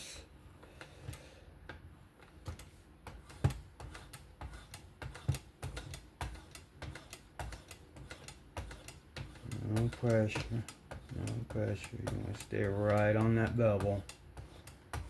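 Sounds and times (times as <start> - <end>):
light clicks and taps of stropping: 0.6 - 15.0.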